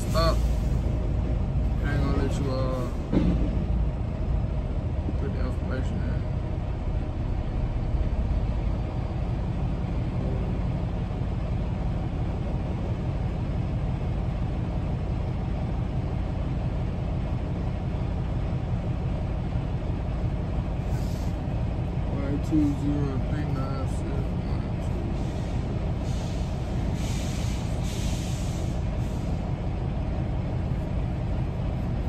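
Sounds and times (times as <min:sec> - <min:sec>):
road noise: 0:00.0 - 0:32.0
truck engine rumble: 0:00.0 - 0:32.0.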